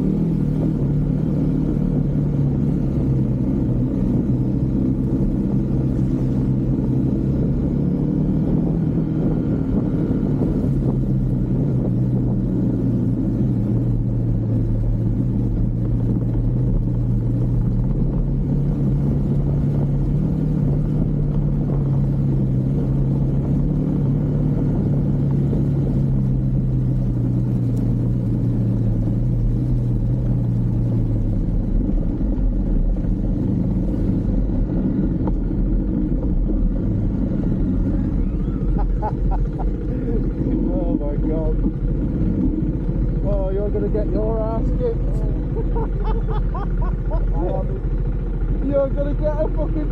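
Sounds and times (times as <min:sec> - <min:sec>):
motorcycle engine cruising: 0:00.0 - 0:49.9
wind rumble: 0:00.0 - 0:49.9.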